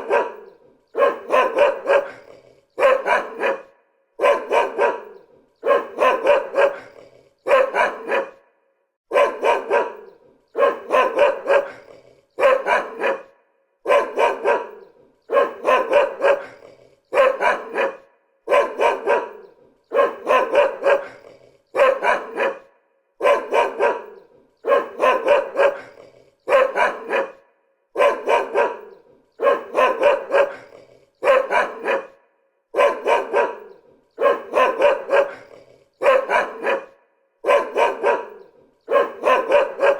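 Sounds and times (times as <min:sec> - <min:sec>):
dog barking: 0:00.0 - 0:39.9.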